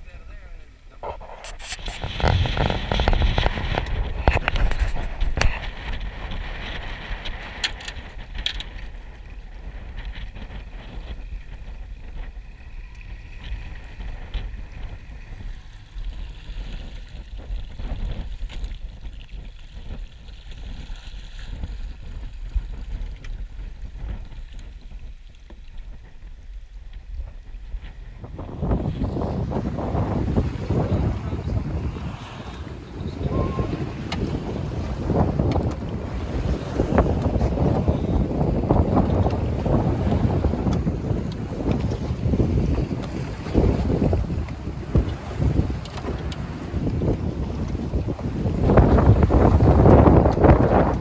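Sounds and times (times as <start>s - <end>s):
boat and water rumble: 0.0s - 51.0s
wind buffeting microphone: 0.0s - 51.0s.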